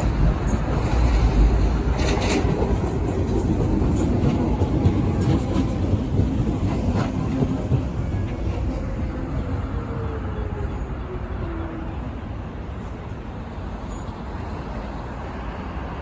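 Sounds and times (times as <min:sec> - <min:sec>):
train rumble with faint whine: 0:00.0 - 0:16.0.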